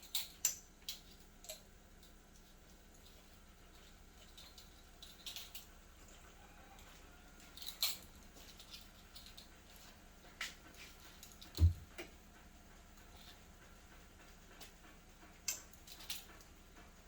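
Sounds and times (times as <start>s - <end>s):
utensils clicking and tapping: 0.0s - 12.2s, 13.0s - 17.0s.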